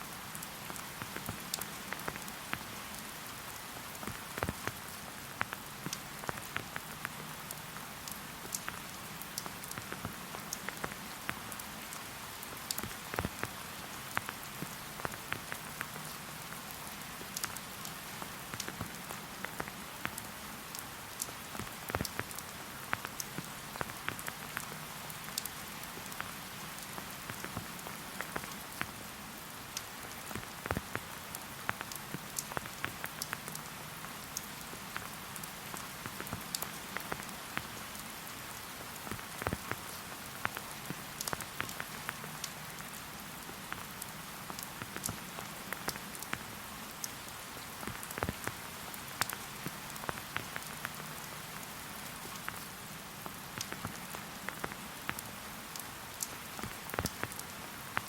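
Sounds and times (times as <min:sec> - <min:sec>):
rain hissing: 0:00.0 - 0:58.0
raindrops ticking close by: 0:00.0 - 0:58.0.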